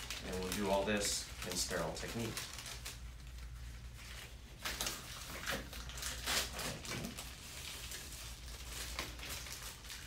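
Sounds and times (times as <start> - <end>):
low steady hum: 0.0 - 10.0
medical packaging crinkling: 0.0 - 10.0.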